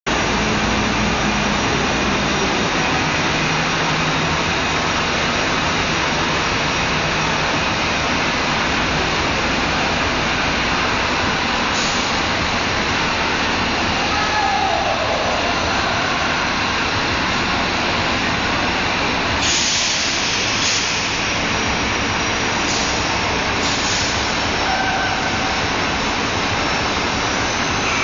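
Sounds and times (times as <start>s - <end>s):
vehicle engine roar: 0.1s - 28.0s.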